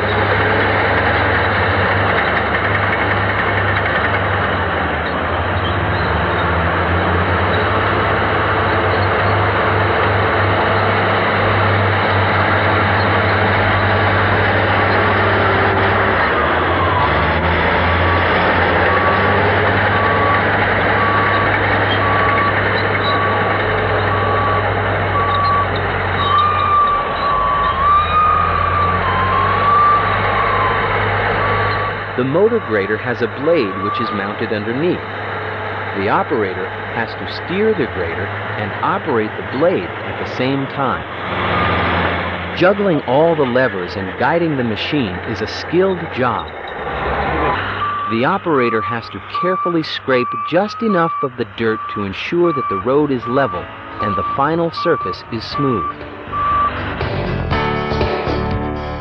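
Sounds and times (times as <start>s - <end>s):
diesel engine running: 0.0s - 59.0s
reversing alarm beeping: 7.5s - 35.2s, 36.0s - 57.5s.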